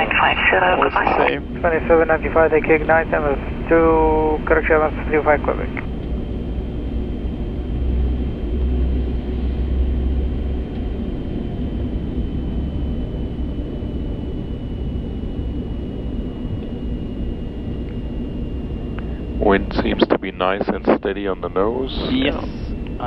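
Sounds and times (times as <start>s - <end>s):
aircraft engine rumble: 0.0s - 23.0s
thin steady whine: 0.0s - 23.0s.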